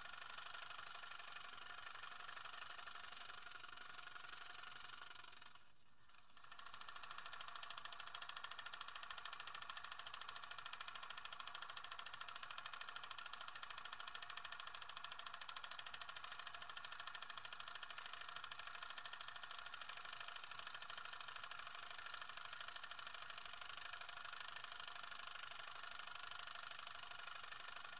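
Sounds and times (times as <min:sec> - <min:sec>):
film projector clattering: 0:00.0 - 0:27.9.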